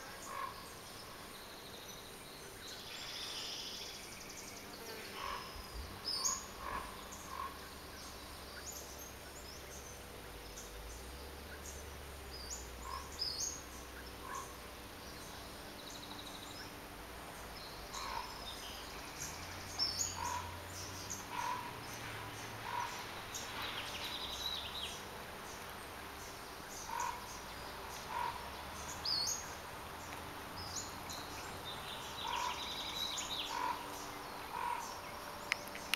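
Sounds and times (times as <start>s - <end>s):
frogs croaking: 0.0s - 4.0s, 4.7s - 35.9s
songbirds chirping: 0.0s - 35.9s.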